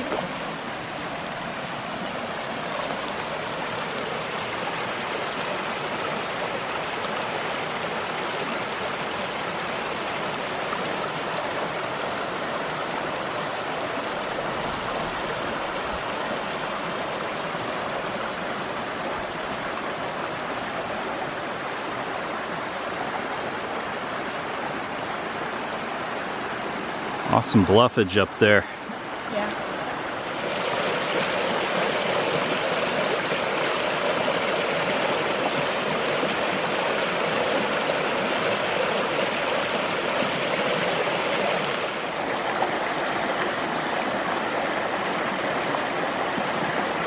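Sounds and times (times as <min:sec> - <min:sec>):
creek rushing: 0:00.0 - 0:47.0.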